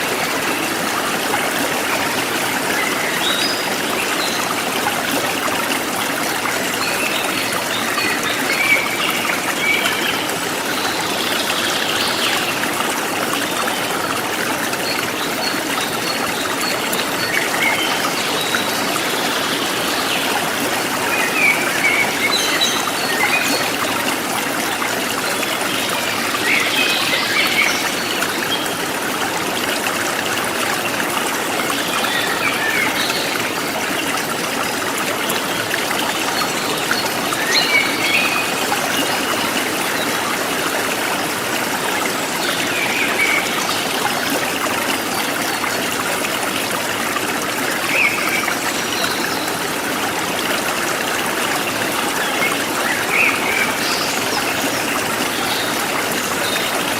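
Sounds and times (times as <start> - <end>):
stream running over rocks: 0.0 - 56.9.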